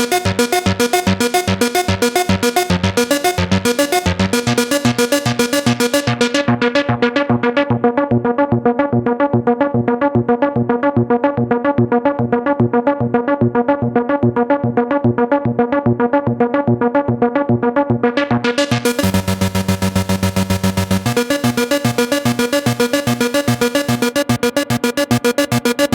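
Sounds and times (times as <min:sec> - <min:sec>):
synthesizer repeated notes: 0:00.0 - 0:16.0, 0:17.2 - 0:25.9.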